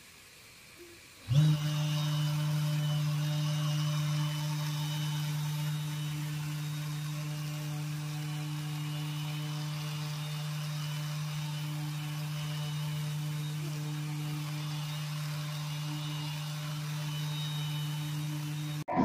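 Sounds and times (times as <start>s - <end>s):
orbital sander running: 0.0s - 18.9s.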